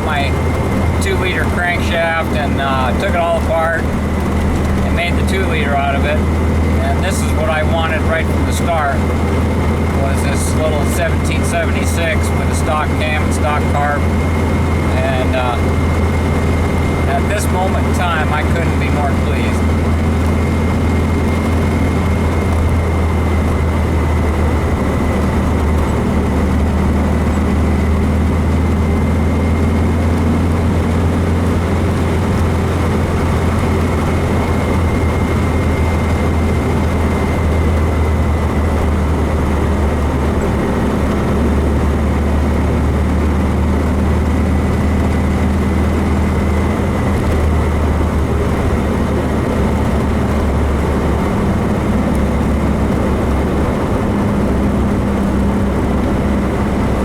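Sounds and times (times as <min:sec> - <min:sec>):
car engine drone: 0:00.0 - 0:57.0.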